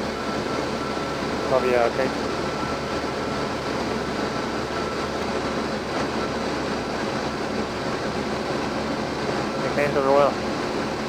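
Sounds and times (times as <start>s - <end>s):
light aircraft engine and propeller: 0.0s - 11.0s.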